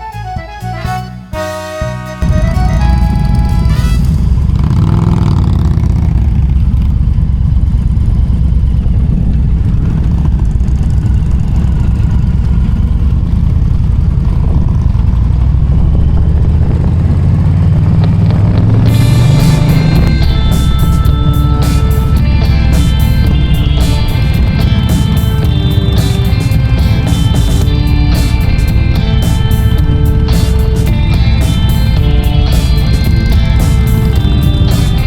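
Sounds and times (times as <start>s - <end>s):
motorcycle engine accelerating: 1.4s - 35.0s.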